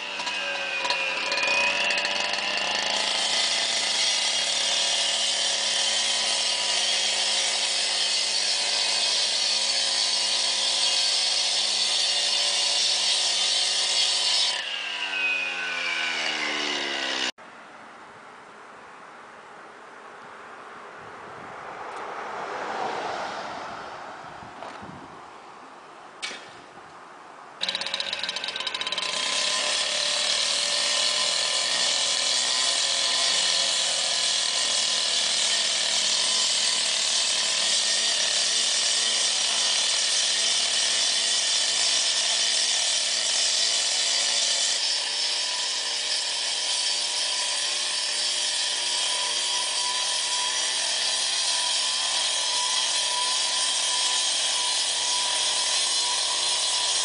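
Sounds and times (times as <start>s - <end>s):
cut-off saw grinding concrete: 0.0s - 17.4s, 27.6s - 57.0s.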